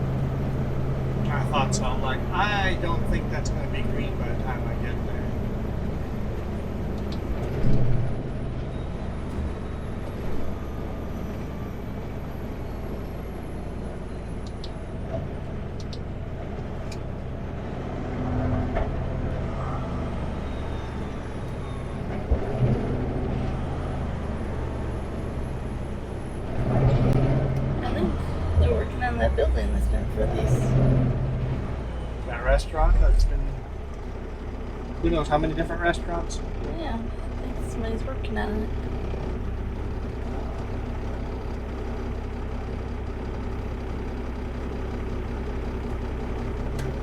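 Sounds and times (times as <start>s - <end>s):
road noise: 0.0s - 47.0s
truck diesel engine running: 0.0s - 47.0s.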